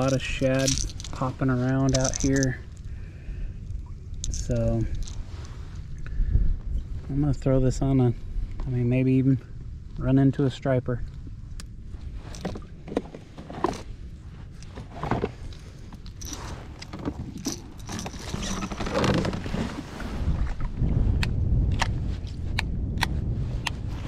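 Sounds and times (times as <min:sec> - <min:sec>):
water: 0:00.0 - 0:06.8, 0:08.1 - 0:24.0
wind: 0:00.0 - 0:24.0.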